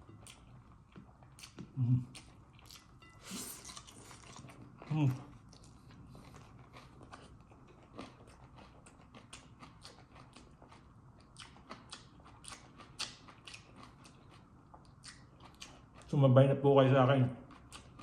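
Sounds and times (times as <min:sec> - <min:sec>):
close-up chewing: 0:00.0 - 0:16.2, 0:17.4 - 0:18.0.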